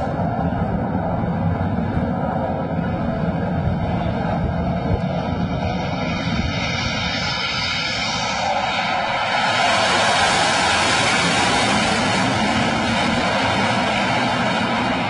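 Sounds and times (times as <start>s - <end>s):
fighter jet engine roar: 0.0s - 15.0s.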